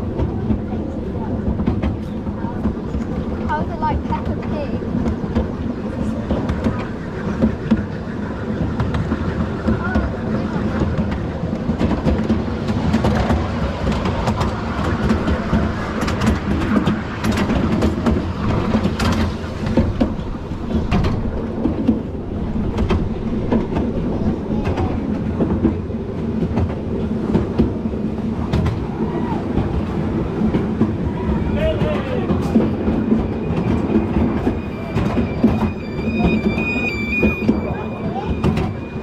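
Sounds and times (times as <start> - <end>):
train wheels rumbling on rails: 0.0 - 39.0
wheels clicking and clacking: 0.0 - 39.0.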